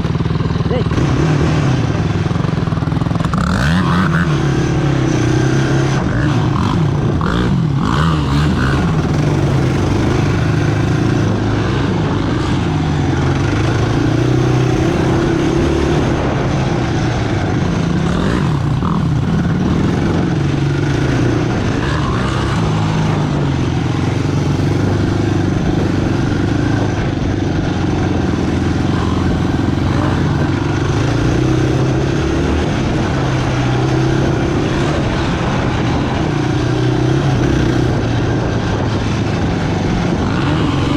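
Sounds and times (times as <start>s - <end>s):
quad engine running: 0.0s - 40.9s.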